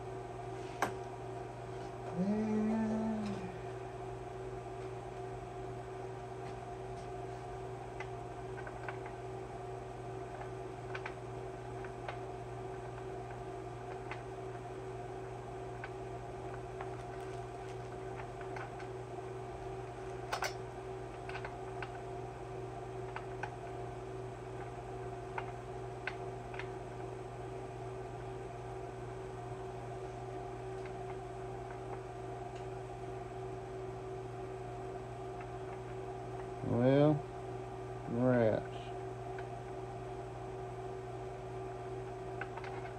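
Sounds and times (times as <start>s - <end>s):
electrical hum: 0.0s - 42.9s.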